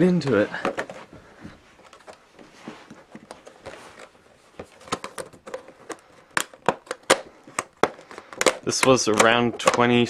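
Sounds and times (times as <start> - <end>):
cardboard rustling and tapping: 0.2 - 10.0.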